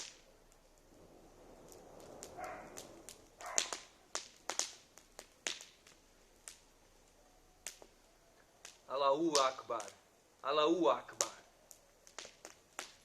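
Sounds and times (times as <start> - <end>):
faint hiss: 0.0 - 13.0
wood fire crackling and popping: 0.0 - 13.0.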